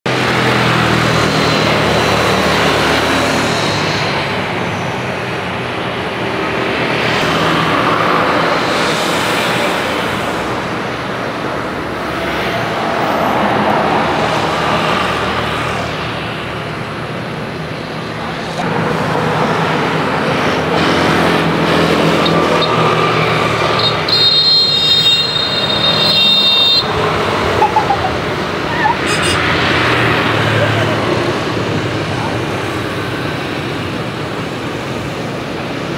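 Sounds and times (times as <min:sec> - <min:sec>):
jet engines roaring: 0:00.0 - 0:35.9.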